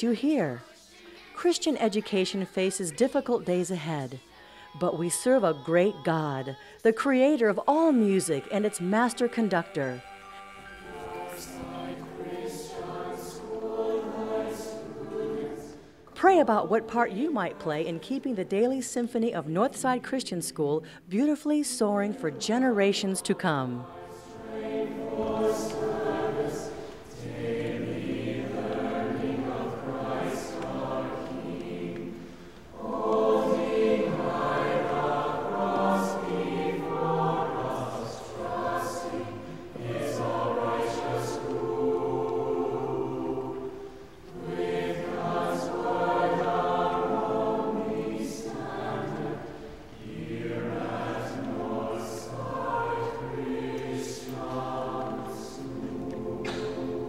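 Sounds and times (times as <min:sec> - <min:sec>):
choir singing: 0:00.0 - 0:20.3, 0:21.2 - 0:57.0.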